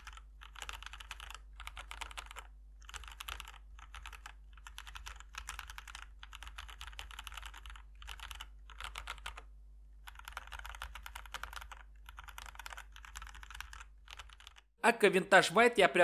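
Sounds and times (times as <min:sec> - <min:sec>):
fast typing on mechanical keyboard: 0:00.0 - 0:14.7.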